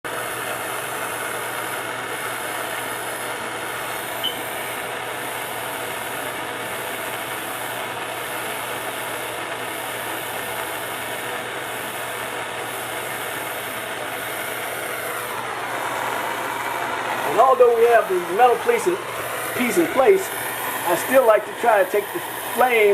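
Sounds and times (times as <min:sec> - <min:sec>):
gas torch flame hissing: 0:00.1 - 0:22.9.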